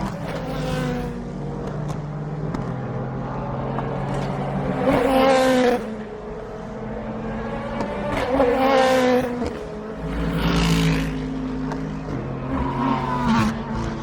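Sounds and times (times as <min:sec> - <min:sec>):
race cars passing: 0:00.0 - 0:14.0.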